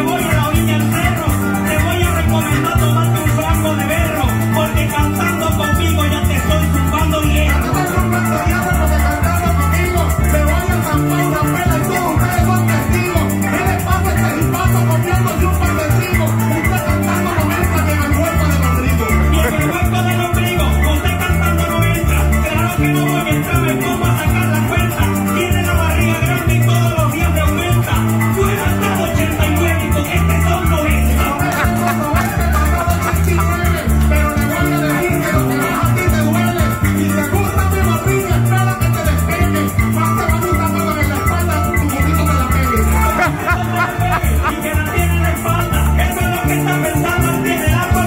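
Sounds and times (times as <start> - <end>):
electric bass line: 0.0 - 48.0
harp plucking fast melody: 0.0 - 48.0
maracas shaking: 0.0 - 48.0.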